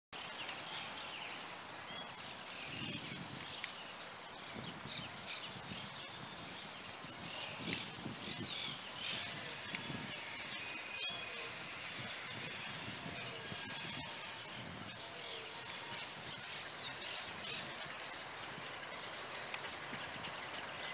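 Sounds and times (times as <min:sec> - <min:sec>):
small birds chirping and whistling: 0:00.2 - 0:20.9
steady outdoor hiss: 0:00.2 - 0:20.9.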